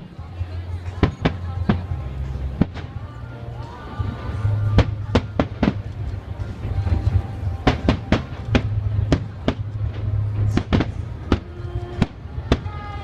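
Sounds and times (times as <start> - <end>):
low rumble: 0.0 - 13.0
fireworks bangs and cracks: 0.9 - 3.1, 3.9 - 13.0.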